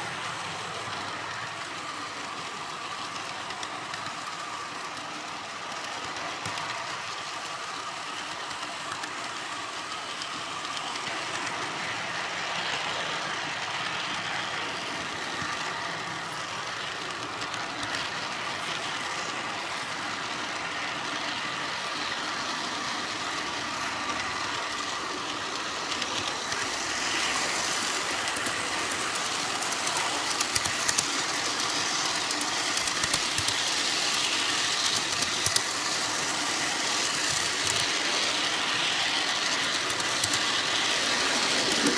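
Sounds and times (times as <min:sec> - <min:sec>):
model train wheels whirring: 0:00.0 - 0:41.9
wheels clicking on track: 0:00.0 - 0:41.9.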